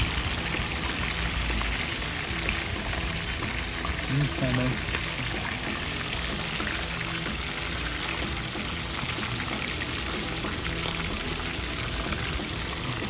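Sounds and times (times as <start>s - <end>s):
background music: 0.0s - 13.0s
oil sizzling: 0.0s - 13.0s.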